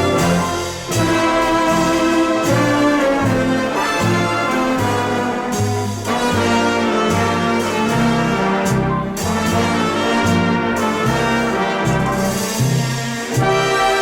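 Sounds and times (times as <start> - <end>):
brass dance orchestra playing: 0.0 - 14.0.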